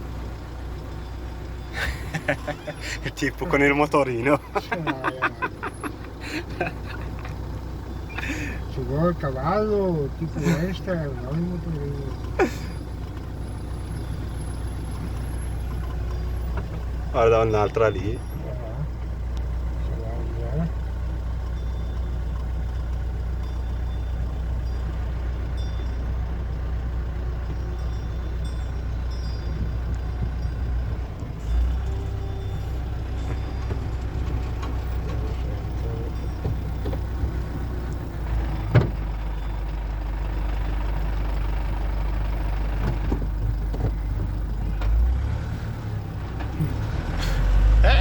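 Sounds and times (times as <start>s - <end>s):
vehicle low rumble: 0.0s - 48.0s.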